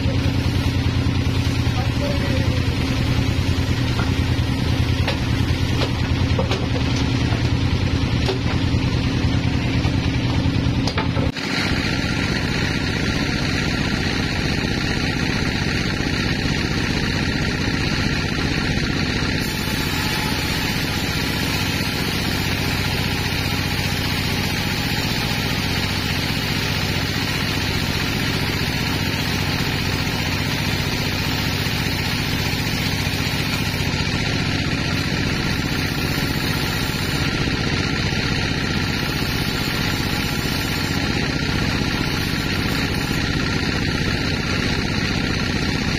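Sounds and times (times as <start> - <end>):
band saw cutting log: 0.0 - 10.1, 11.1 - 45.9
machine hum: 0.0 - 45.9.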